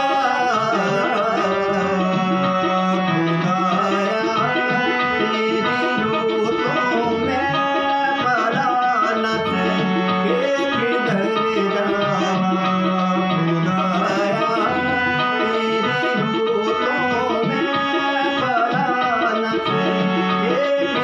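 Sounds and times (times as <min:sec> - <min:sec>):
drum rhythm: 0:00.0 - 0:21.0
harmonium chords: 0:00.0 - 0:21.0
man singing: 0:00.0 - 0:21.0.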